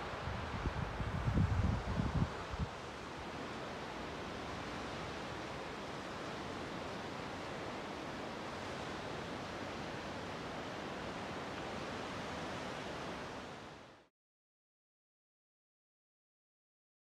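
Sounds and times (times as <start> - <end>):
wind: 0.0 - 14.1.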